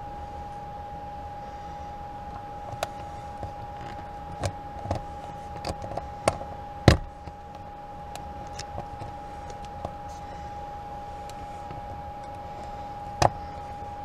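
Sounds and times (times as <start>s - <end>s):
high-pitched tone hum: 0.0s - 14.0s.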